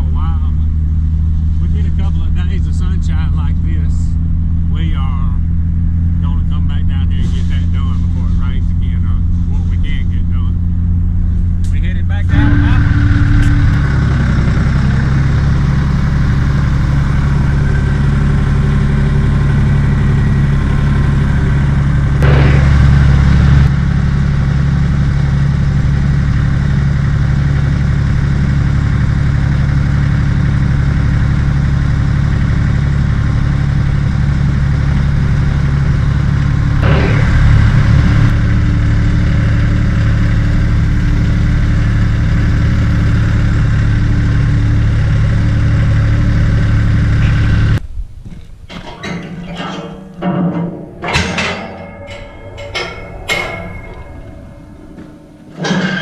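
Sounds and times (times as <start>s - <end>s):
truck engine running: 0.0s - 47.8s.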